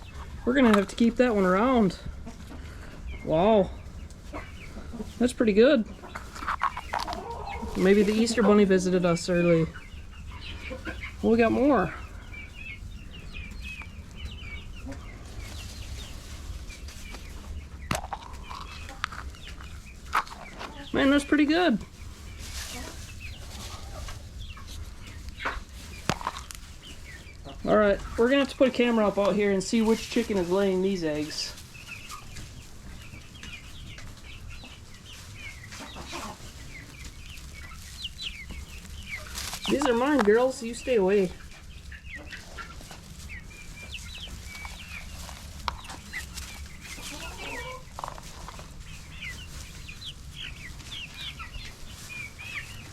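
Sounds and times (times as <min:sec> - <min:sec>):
hens clucking: 0:00.0 - 0:52.9.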